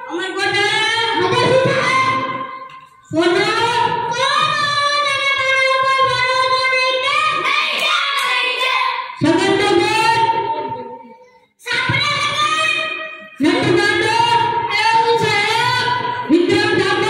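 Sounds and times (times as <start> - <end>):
child singing into a microphone: 0.0 - 17.0.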